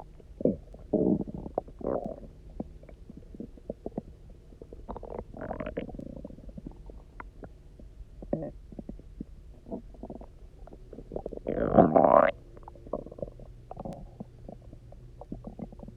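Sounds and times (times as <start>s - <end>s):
pitched stomach growl: 0.0s - 7.6s, 8.2s - 15.9s
stomach gurgling and rumbling: 0.0s - 15.9s.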